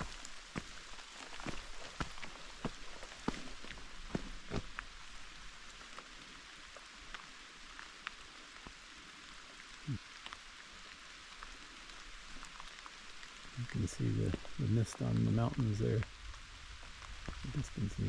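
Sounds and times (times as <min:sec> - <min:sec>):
light rain falling: 0:00.0 - 0:18.0
raindrops ticking: 0:00.0 - 0:18.0.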